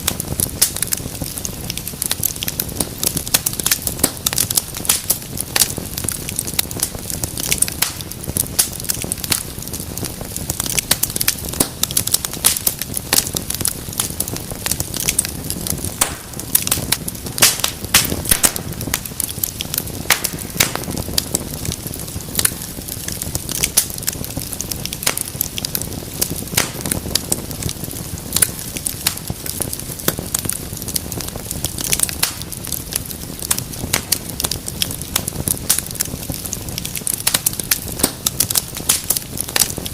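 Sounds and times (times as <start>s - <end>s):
low rumble of burning: 0.0s - 39.9s
wood fire crackling and popping: 0.0s - 39.9s.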